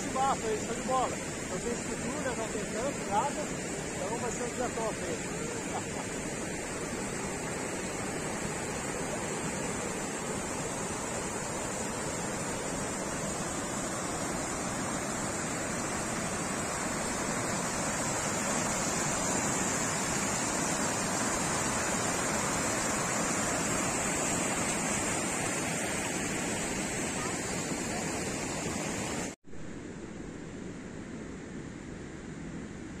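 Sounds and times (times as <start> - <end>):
river water rushing over rocks: 0.0 - 29.4.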